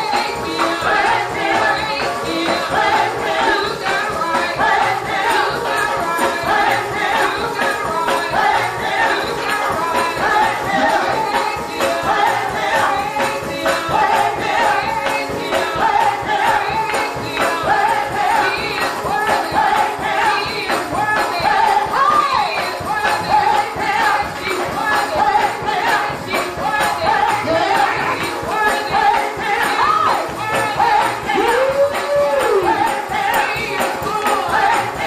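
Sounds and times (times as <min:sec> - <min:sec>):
fast percussion beat: 0:00.0 - 0:35.0
voices singing gospel: 0:00.0 - 0:35.0.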